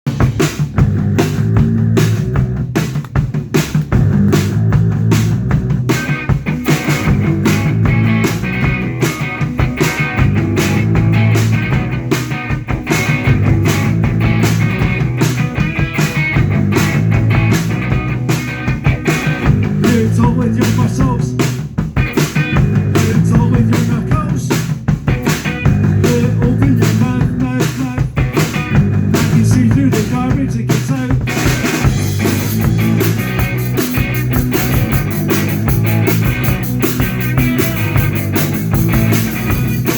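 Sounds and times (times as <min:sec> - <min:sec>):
bass guitar: 0:00.0 - 0:39.9
drum kit: 0:00.0 - 0:39.9
electric guitar: 0:00.1 - 0:39.9.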